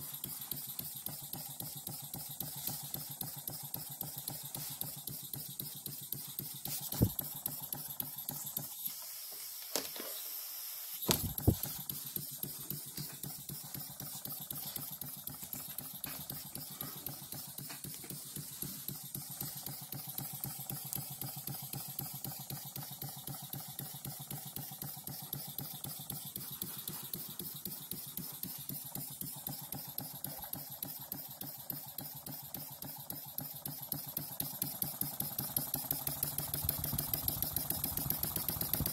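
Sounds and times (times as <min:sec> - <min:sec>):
model steam engine ticking: 0:00.0 - 0:08.9, 0:11.2 - 0:38.9.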